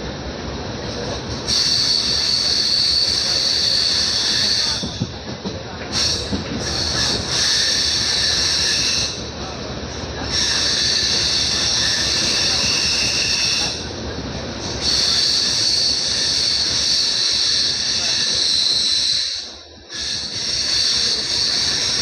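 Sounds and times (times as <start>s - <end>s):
train coach rumbling on track: 0.0s - 22.0s
train wheels squealing on rails: 0.6s - 22.0s.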